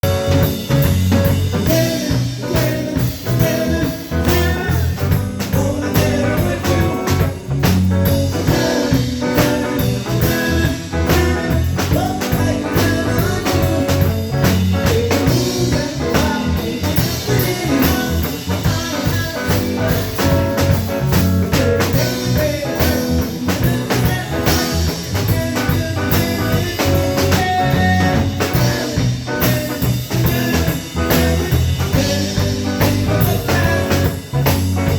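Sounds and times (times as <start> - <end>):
band playing blues: 0.0 - 34.9
drum kit: 0.0 - 34.9
guitar: 0.0 - 34.9.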